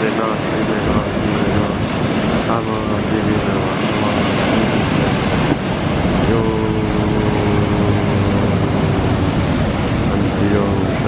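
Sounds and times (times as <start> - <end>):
waves breaking on rocks: 0.0 - 11.0.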